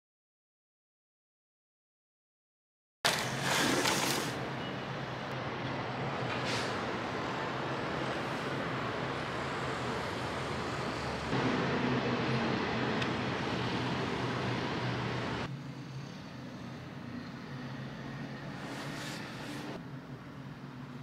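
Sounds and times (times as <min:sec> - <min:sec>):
city traffic hum: 0:03.1 - 0:21.0.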